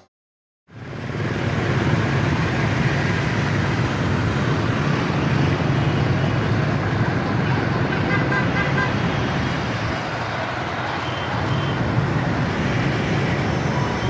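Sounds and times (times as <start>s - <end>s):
road traffic noise: 0.7s - 14.0s.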